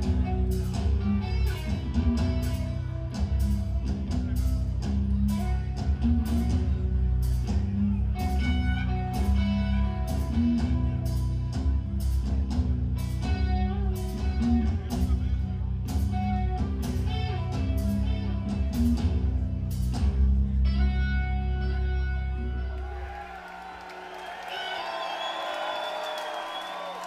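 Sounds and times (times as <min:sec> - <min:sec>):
chugging guitar riffs: 0:00.0 - 0:23.0
heavy metal band playing: 0:00.0 - 0:23.0.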